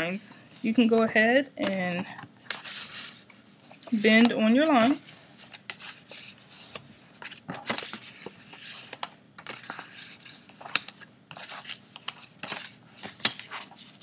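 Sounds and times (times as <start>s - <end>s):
paper rustling and crackling: 2.4s - 14.0s.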